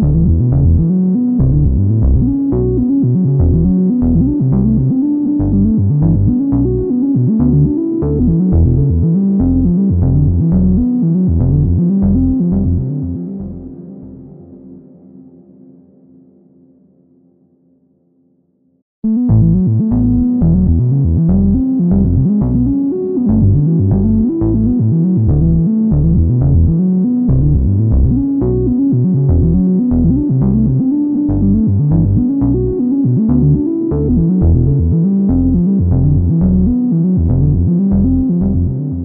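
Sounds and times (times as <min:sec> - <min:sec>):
pulsing bass line: 0:00.0 - 0:14.3, 0:19.0 - 0:39.0.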